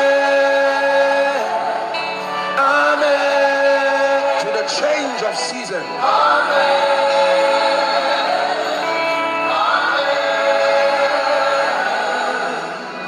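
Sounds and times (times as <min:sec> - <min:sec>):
choir singing gospel music: 0:00.0 - 0:13.0.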